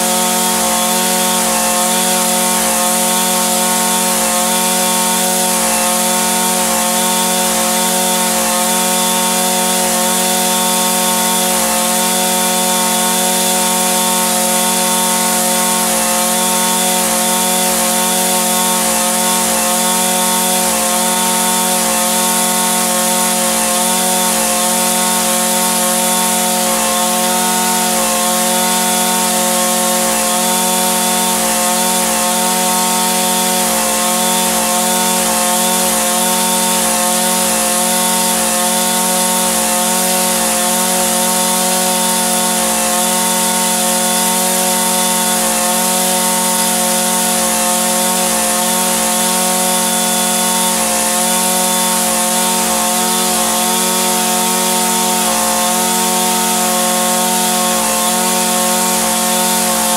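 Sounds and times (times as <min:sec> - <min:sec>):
string trimmer engine buzzing: 0:00.0 - 0:59.9.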